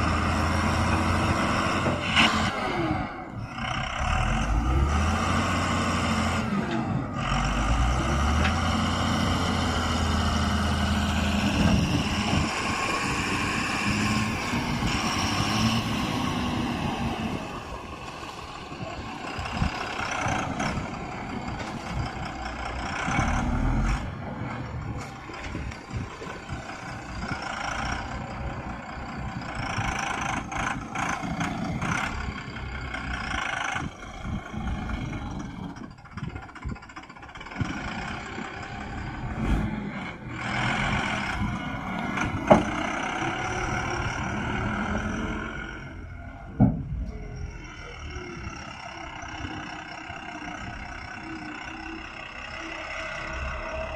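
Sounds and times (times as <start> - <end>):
diesel engine under varying load: 0.0 - 53.9.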